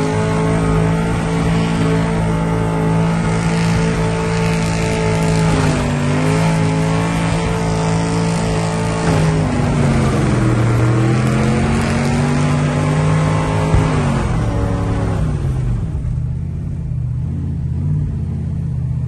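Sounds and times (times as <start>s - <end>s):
car engine revving high: 0.0s - 16.1s.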